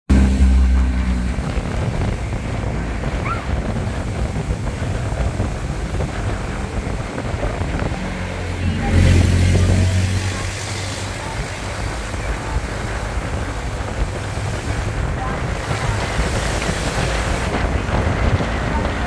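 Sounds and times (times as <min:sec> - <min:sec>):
car engine and road noise: 0:00.1 - 0:19.0
wind buffeting microphone: 0:00.1 - 0:19.0.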